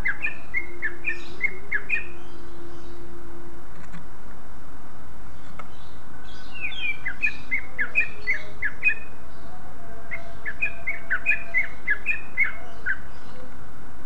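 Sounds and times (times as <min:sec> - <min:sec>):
bird calling sharp notes: 0:00.0 - 0:03.3, 0:05.4 - 0:13.6
steady hiss: 0:00.0 - 0:14.0.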